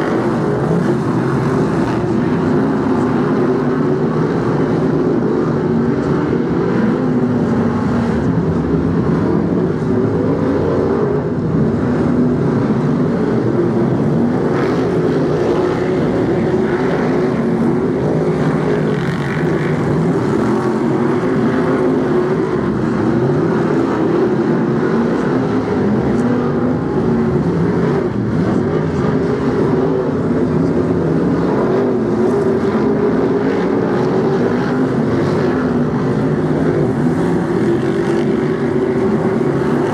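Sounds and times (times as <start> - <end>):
racing car engines roaring: 0.0 - 39.9.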